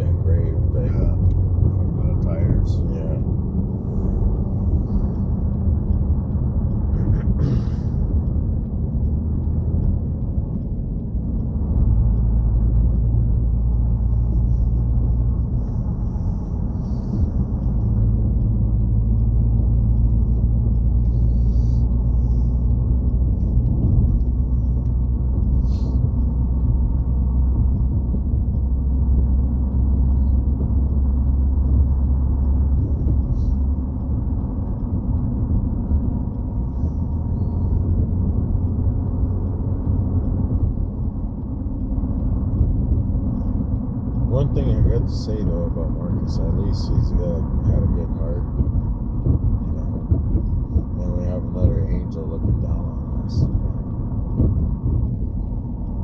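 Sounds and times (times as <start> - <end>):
car engine drone: 0.0 - 56.0
road rumble: 0.0 - 56.0.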